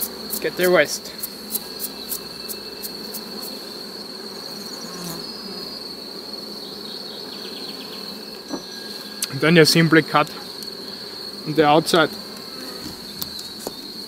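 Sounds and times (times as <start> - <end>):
brush sweeping bees: 0.0 - 14.0
honeybees buzzing: 0.0 - 14.0.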